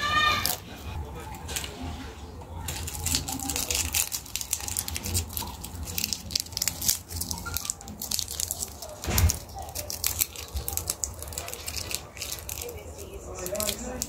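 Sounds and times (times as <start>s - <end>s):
paper crumpling: 0.0s - 14.0s.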